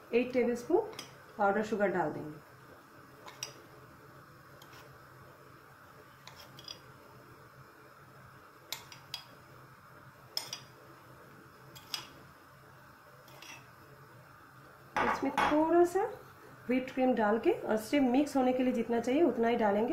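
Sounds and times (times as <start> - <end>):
faint steady hiss: 0.0 - 19.9.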